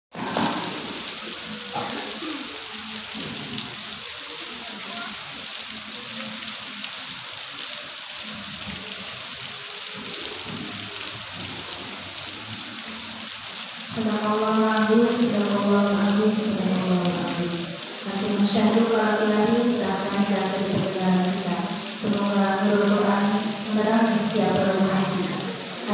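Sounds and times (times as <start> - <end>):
steady hiss: 0.2 - 25.9.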